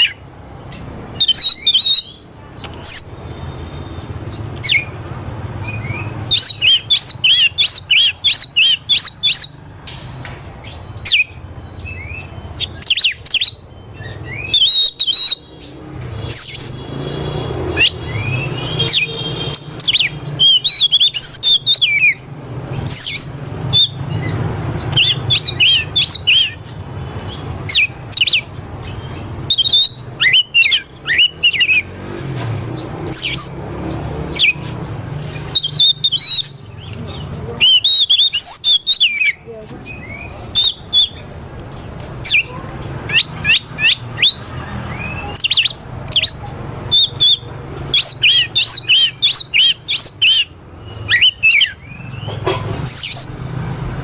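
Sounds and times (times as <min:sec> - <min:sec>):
bird whistling and chirping: 0:00.0 - 0:02.2, 0:02.8 - 0:05.0, 0:05.6 - 0:09.7, 0:10.6 - 0:16.9, 0:17.7 - 0:31.9, 0:32.7 - 0:33.7, 0:34.3 - 0:36.9, 0:37.6 - 0:41.3, 0:42.2 - 0:42.5, 0:43.1 - 0:53.4.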